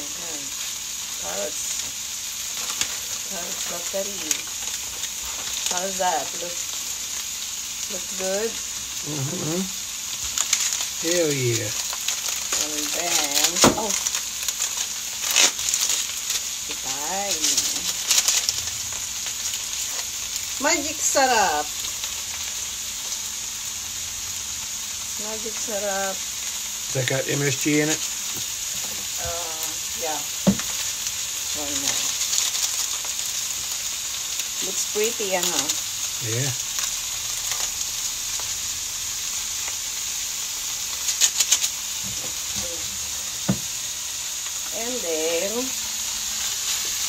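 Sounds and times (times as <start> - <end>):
food sizzling in a wok: 0.0 - 47.0.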